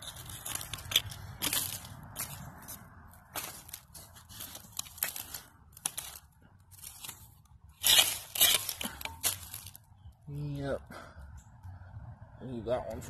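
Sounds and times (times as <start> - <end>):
crunching in glassy soil: 0.0 - 10.8.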